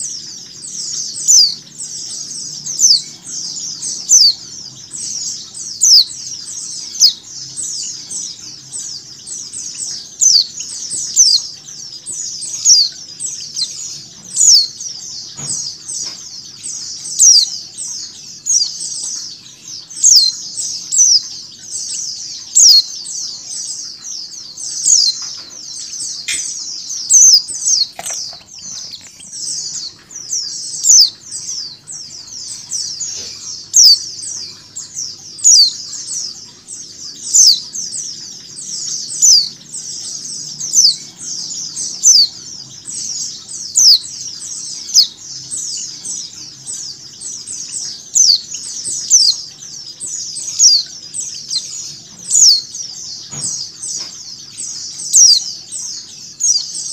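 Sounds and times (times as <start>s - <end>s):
flock of birds chirping: 0.0s - 56.9s.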